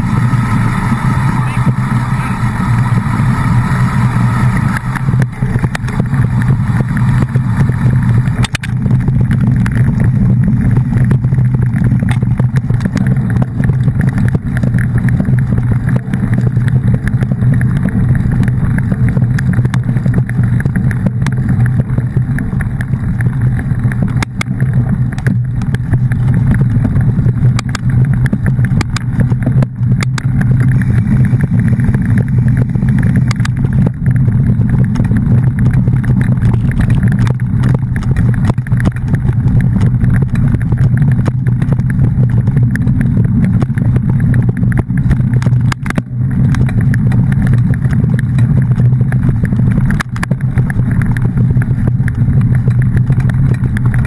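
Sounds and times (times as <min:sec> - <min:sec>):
low engine drone: 0:00.0 - 0:54.0
road noise: 0:00.0 - 0:54.0.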